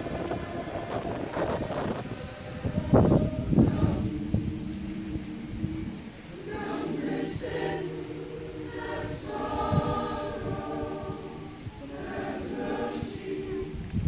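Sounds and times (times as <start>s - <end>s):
choir singing in harmony: 0.0s - 14.0s.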